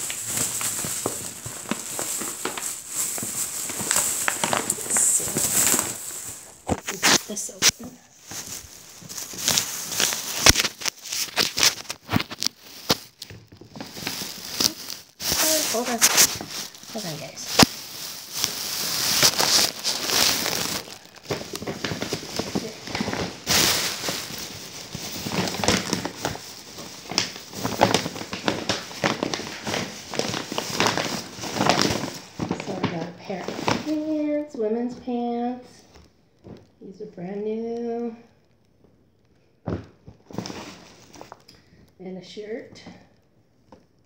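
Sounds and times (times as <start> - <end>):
plastic bag crinkling: 0.0 - 36.8, 39.6 - 41.9.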